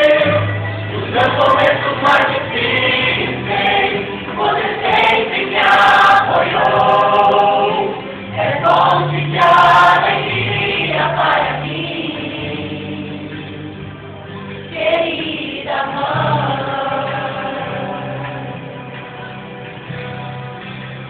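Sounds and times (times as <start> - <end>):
gospel choir singing: 0.0 - 14.0, 14.7 - 19.0
sustained bass notes: 0.0 - 21.0.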